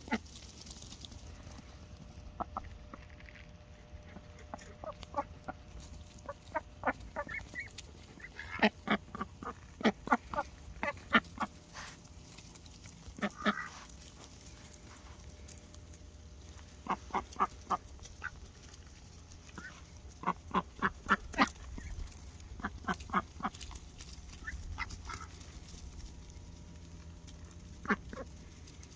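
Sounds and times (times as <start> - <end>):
ducks quacking: 0.0 - 0.3, 1.4 - 12.2, 12.9 - 15.0, 16.4 - 25.7, 27.3 - 28.9.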